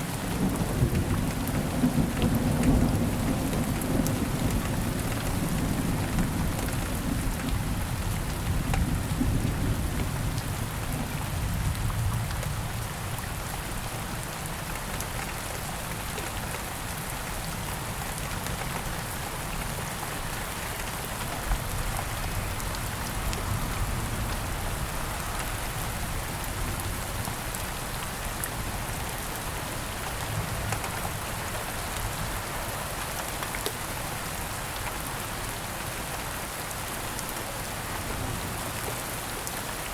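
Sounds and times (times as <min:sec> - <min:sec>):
steady rain on leaves: 0:00.0 - 0:39.9.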